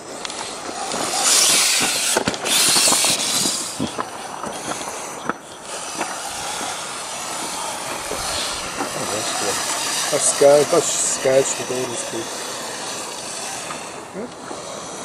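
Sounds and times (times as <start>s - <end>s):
toy motors and gears whirring: 0.0s - 15.0s
loud hissing rush: 0.4s - 15.0s.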